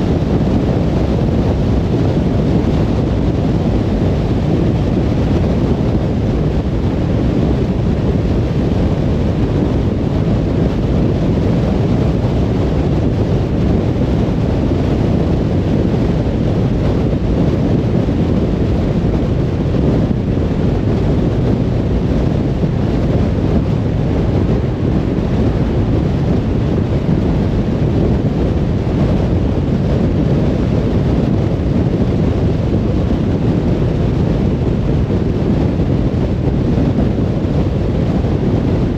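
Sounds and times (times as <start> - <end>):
wind noise from driving: 0.0 - 38.9.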